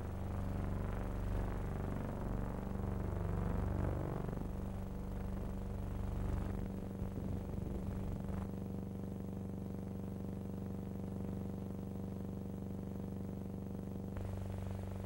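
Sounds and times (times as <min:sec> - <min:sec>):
steady even hum: 0:00.0 - 0:15.0.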